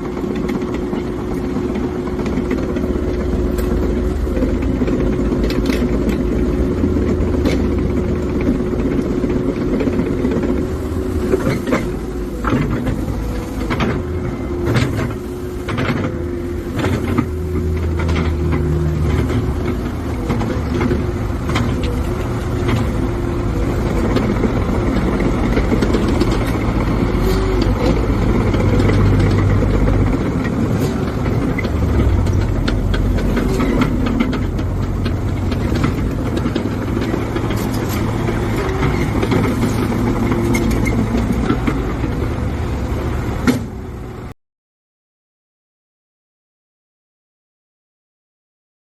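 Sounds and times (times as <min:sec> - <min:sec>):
diesel engine rumbling: 0:00.0 - 0:44.4.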